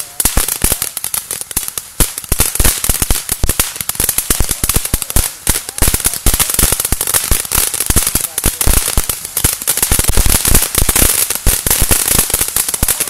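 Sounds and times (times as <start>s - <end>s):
firework crackling pops: 0.0s - 13.0s
firework hissing: 0.0s - 13.0s.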